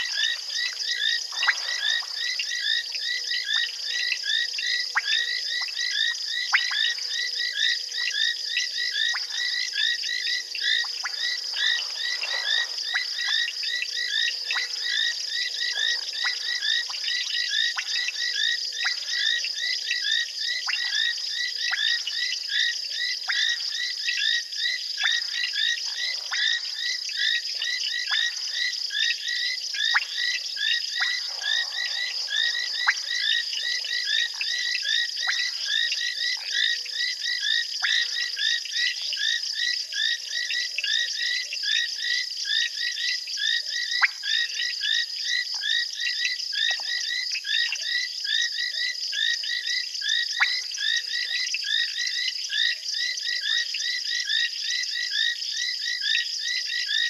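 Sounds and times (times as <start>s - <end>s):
frog chorus: 0.0s - 57.0s.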